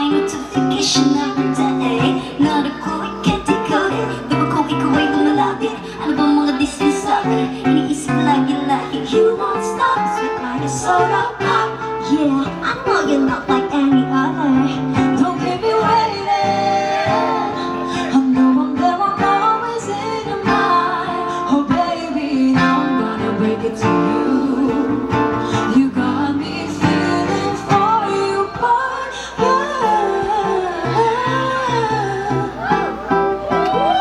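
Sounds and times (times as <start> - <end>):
live pop song over sound system: 0.0 - 34.0.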